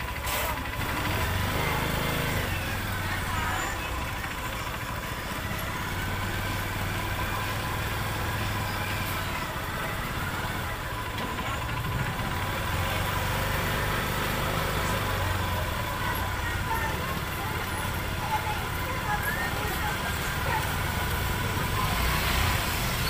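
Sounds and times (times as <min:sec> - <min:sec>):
engine idling: 0:00.0 - 0:23.0
street noise: 0:00.0 - 0:23.0.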